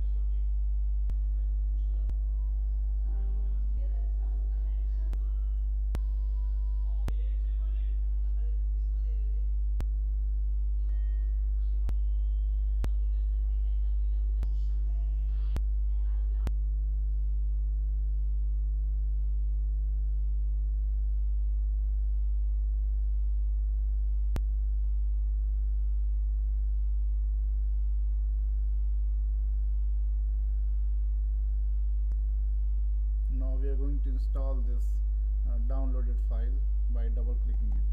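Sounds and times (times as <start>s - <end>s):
electrical mains hum: 0.0s - 37.9s.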